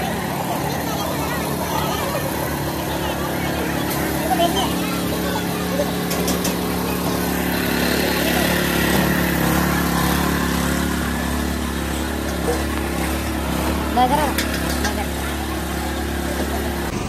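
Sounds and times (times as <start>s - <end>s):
crowd chatter: 0.0s - 17.0s
engine hum: 0.0s - 17.0s.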